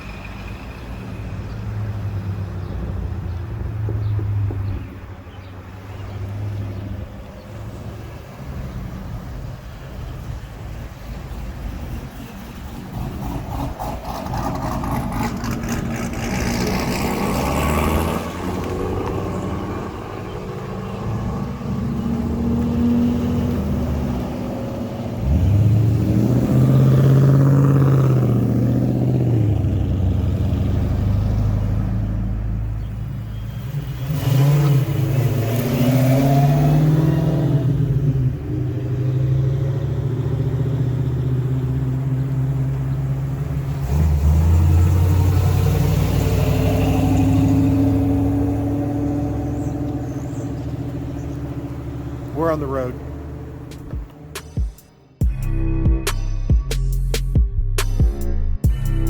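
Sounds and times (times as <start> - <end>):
car engines accelerating past: 0.0 - 54.5.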